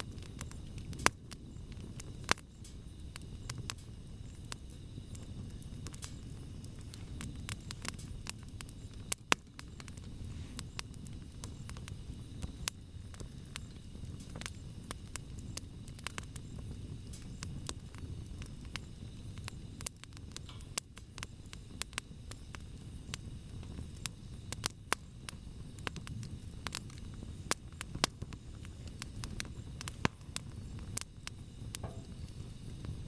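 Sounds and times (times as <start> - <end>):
campfire crackling: 0.0 - 33.0
fire snapping and popping: 0.0 - 33.0
low rush of burning: 0.0 - 33.0.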